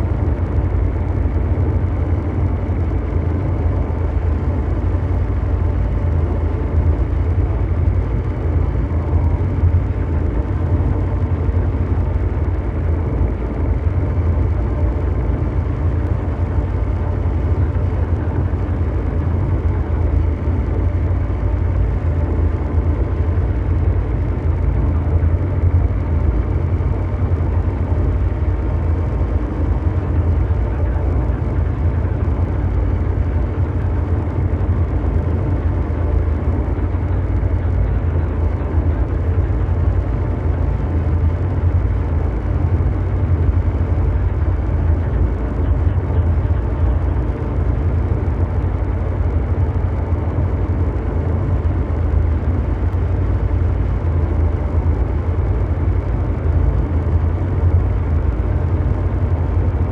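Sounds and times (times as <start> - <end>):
deep mechanical drone: 0.0 - 59.9.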